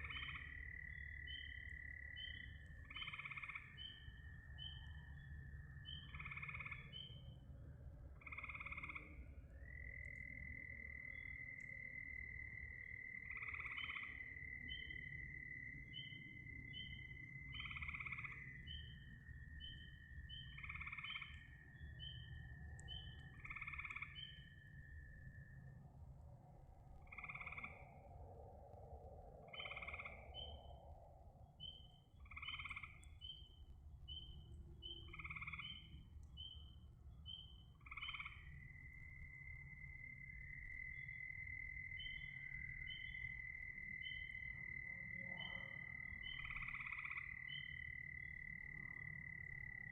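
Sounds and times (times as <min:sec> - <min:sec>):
frog call: 0:00.0 - 0:07.2, 0:08.2 - 0:25.6, 0:27.0 - 0:28.3, 0:29.4 - 0:30.9, 0:31.6 - 0:49.9.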